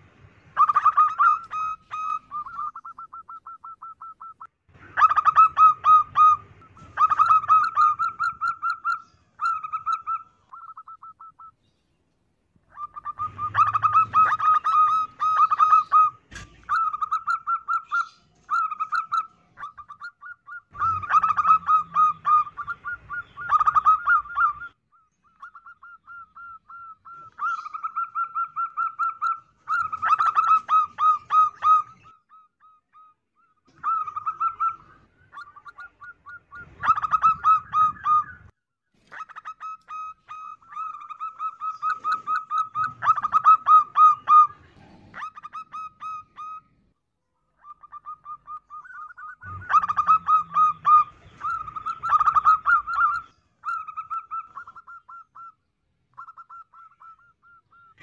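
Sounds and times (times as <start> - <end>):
dove cooing in trilled notes: 0.6 - 11.6, 12.7 - 38.5, 39.1 - 46.8, 47.6 - 58.0.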